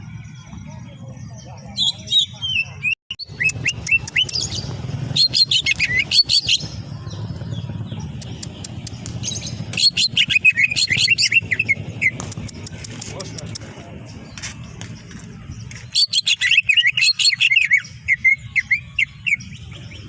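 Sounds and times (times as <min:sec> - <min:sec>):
bird chirping and whistling: 0:01.8 - 0:06.8, 0:07.4 - 0:13.0, 0:14.3 - 0:20.0.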